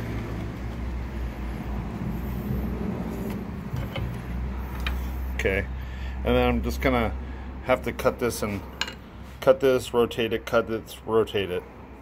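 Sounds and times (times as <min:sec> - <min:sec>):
low mechanical rumble and hum: 0:00.0 - 0:12.0.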